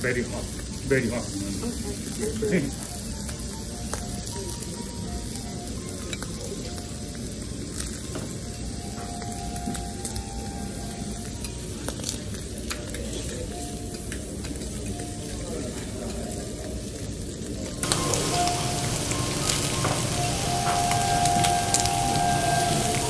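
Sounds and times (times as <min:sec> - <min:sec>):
food sizzling on griddle: 0:00.0 - 0:23.0.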